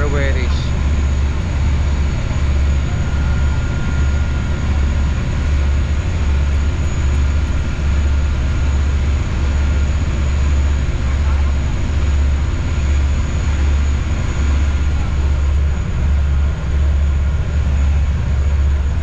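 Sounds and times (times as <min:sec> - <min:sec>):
boat engine low drone: 0:00.0 - 0:19.0.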